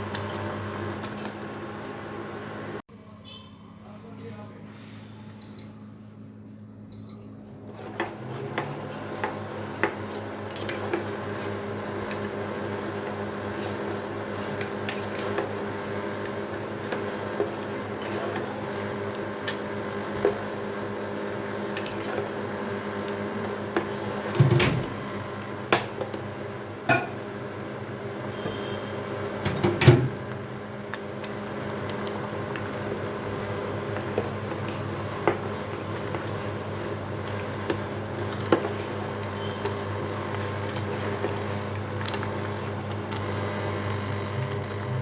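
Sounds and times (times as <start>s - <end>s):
appliance hum: 0.0s - 45.0s.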